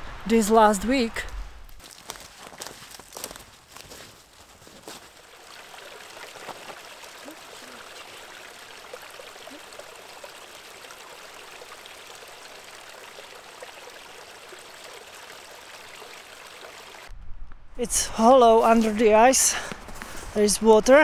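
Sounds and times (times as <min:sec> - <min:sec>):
stream of water trickling: 0:00.0 - 0:17.1.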